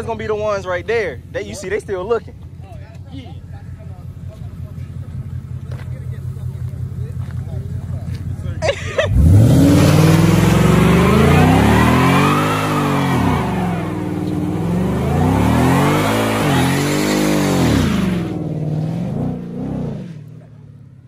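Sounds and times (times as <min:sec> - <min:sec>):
car engine revving: 0:03.4 - 0:21.0.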